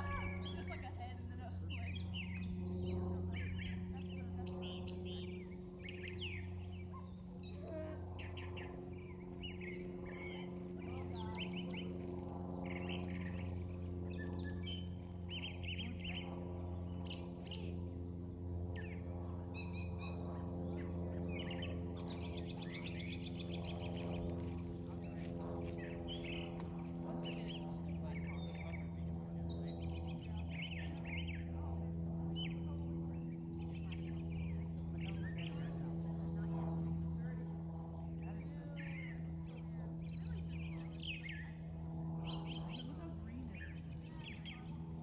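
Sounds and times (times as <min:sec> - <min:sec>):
birds singing and chirping: 0:00.0 - 0:36.4, 0:37.0 - 0:45.0
steady low hum: 0:00.0 - 0:45.0.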